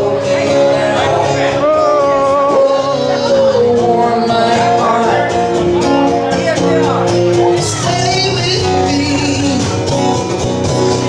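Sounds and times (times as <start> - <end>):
guitar: 0.0 - 11.0
man singing: 0.0 - 11.0.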